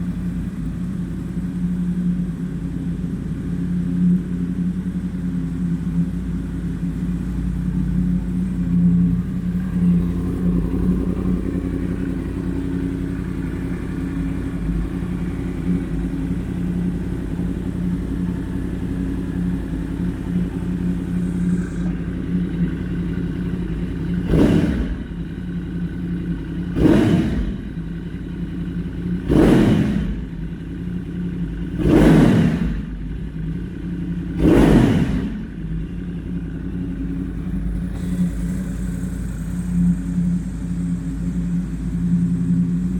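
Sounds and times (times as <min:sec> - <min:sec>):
motorcycle engine idling: 0:00.0 - 0:42.9
engine revving: 0:06.0 - 0:42.9.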